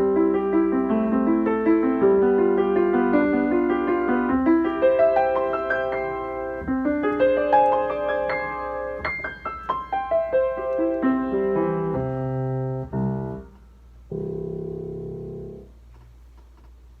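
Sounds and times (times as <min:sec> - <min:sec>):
slow piano piece: 0:00.0 - 0:15.8.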